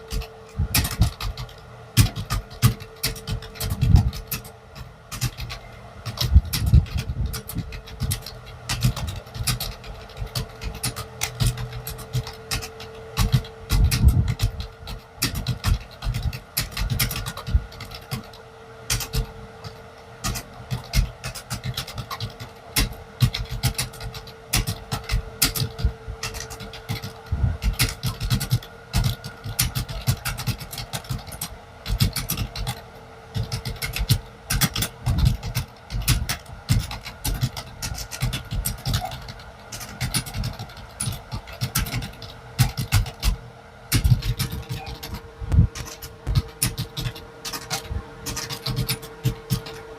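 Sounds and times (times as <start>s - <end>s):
faint hum: 0.0s - 49.9s
fast keyboard typing: 0.0s - 49.9s.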